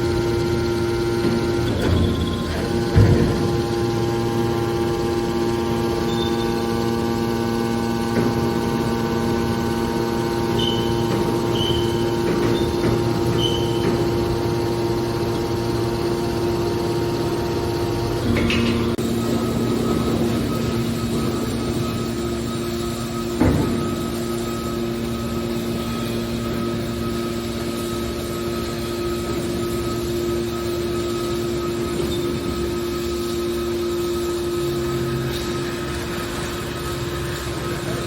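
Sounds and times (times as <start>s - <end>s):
baler motor humming: 0.0s - 38.0s.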